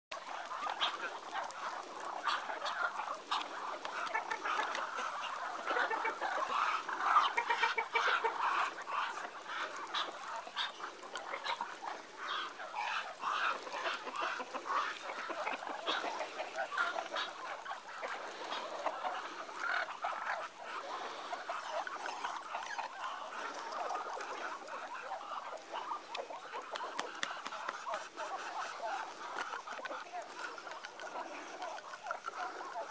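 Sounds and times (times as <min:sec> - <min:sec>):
ducks calling: 0:00.1 - 0:32.9.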